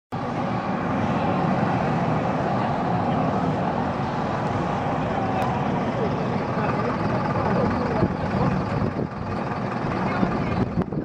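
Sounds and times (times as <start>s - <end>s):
diesel truck engine running: 0.2s - 11.0s.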